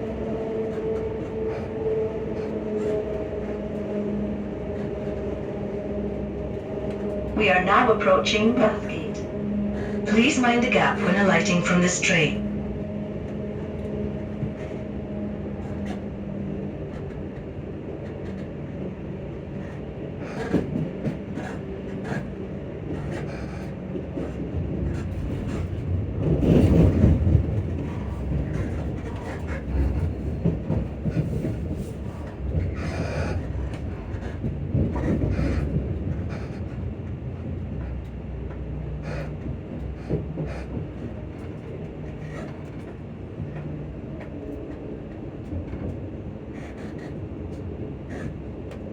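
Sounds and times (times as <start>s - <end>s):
train traction motors humming: 0.0s - 47.1s
train wheels rumbling on track: 0.0s - 48.9s.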